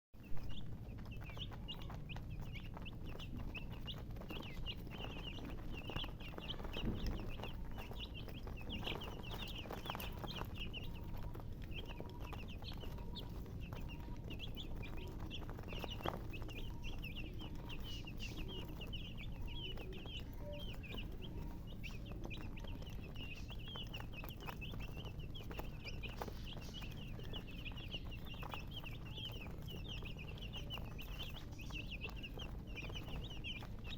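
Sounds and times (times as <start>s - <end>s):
baby chicks peeping: 0.2s - 33.9s
low steady rumble: 0.2s - 33.9s.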